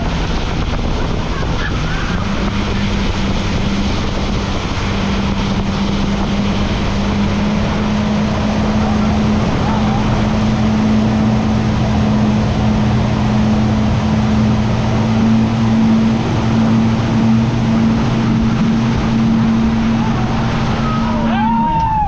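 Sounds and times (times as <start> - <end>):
motorboat engine running: 0.0 - 22.0
rush of wind and water: 0.0 - 22.0.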